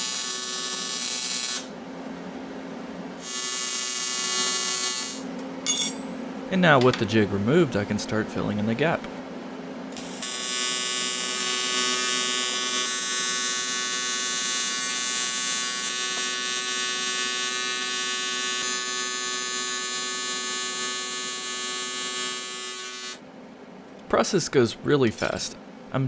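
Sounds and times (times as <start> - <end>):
welding arc buzzing hum: 0.0 - 24.0.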